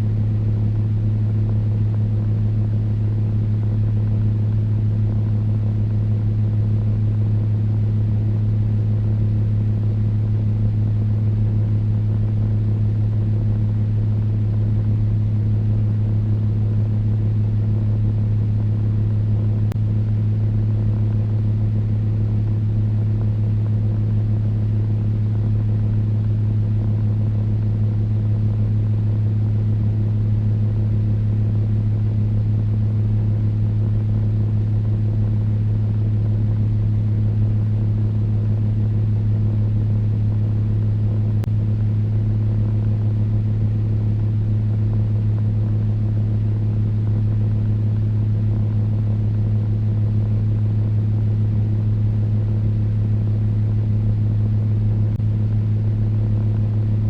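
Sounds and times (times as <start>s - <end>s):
electric fan motor hum: 0.0s - 57.0s.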